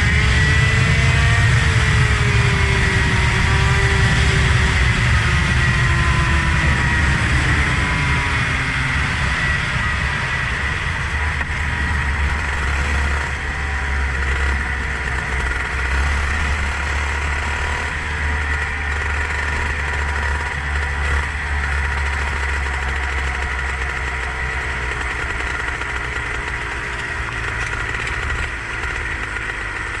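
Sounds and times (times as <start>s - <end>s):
low rumble: 0.0s - 30.0s
vehicle engine slowing down: 0.0s - 30.0s.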